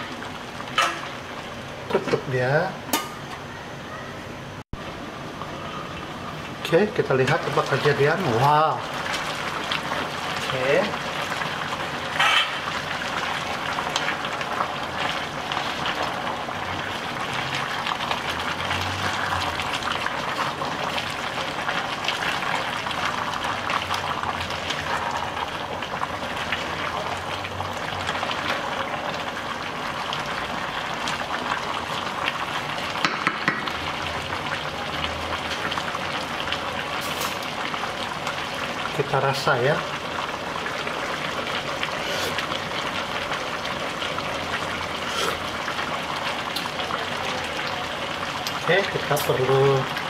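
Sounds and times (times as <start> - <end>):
curry bubbling in a pot: 4.8 - 50.0.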